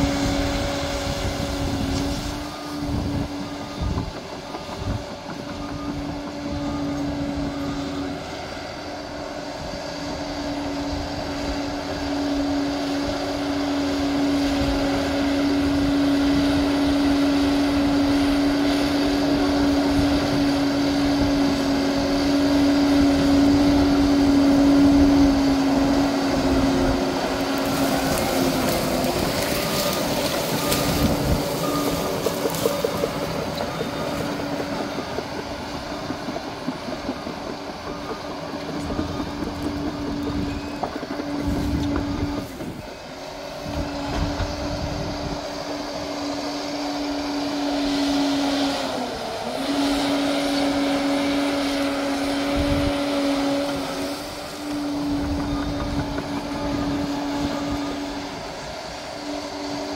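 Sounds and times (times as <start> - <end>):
bulldozer engine whining: 0.0 - 59.9.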